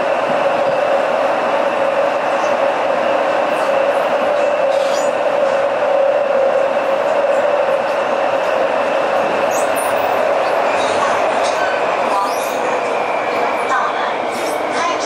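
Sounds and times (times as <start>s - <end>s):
train car rumbling: 0.0s - 15.0s.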